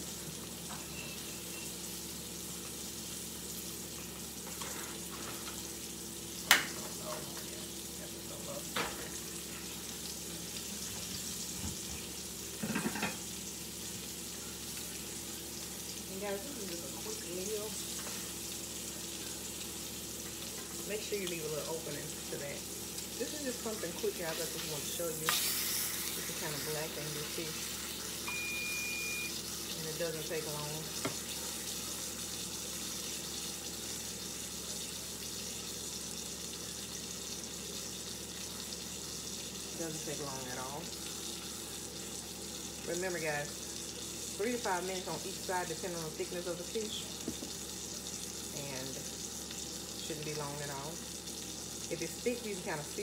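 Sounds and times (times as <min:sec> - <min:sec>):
fish frying in oil: 0:00.0 - 0:53.0.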